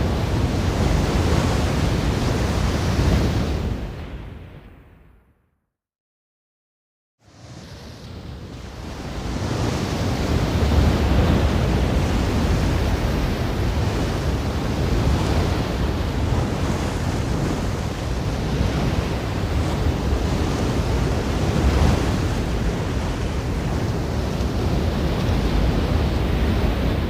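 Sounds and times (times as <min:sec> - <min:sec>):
ocean waves rushing: 0:00.0 - 0:04.5, 0:07.2 - 0:27.0.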